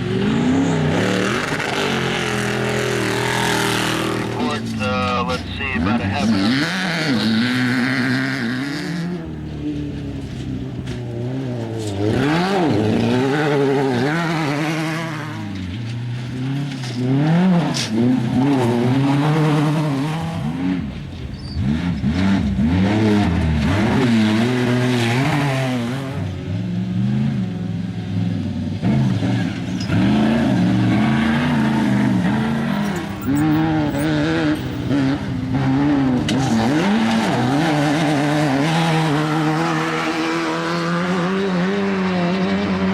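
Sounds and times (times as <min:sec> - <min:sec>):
race vehicle engines revving: 0:00.0 - 0:42.9.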